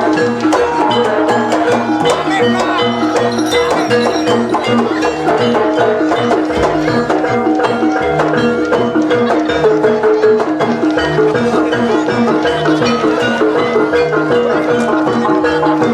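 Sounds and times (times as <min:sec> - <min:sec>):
gong-chimes and metallophones: 0:00.0 - 0:15.9.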